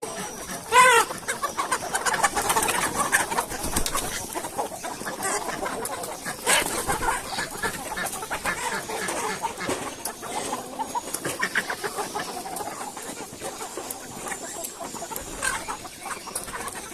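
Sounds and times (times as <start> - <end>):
chickens clucking: 0.0 - 16.9.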